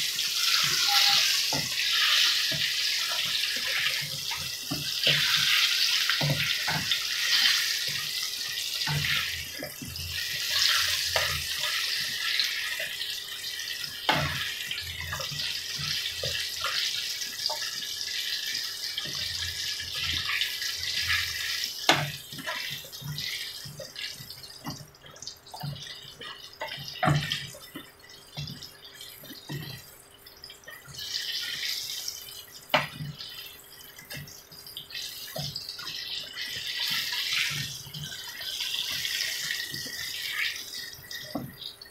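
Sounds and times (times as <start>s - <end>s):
oil sizzling and crackling: 0.0s - 41.9s.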